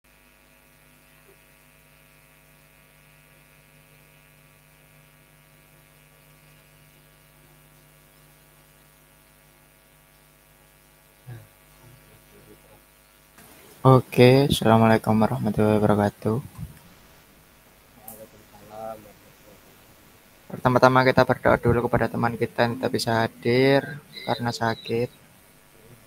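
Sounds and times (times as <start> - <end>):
faint electrical mains hum: 0.1 - 26.0.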